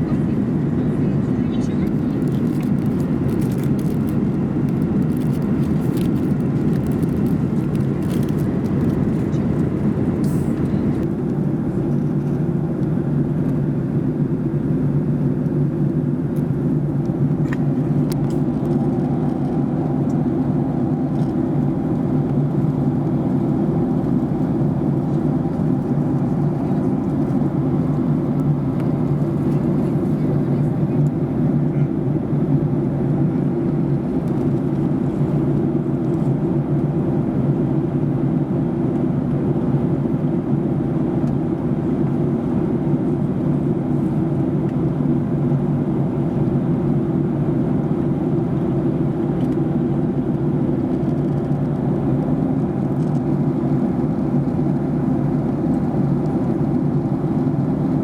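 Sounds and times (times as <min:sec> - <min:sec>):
airliner cabin noise: 0:00.0 - 0:58.0.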